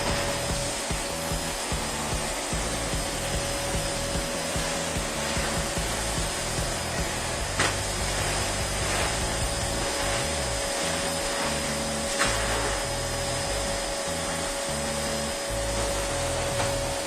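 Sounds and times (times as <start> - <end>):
music with stepping bass line: 0.0 - 17.0
vacuum cleaner running: 0.0 - 17.0.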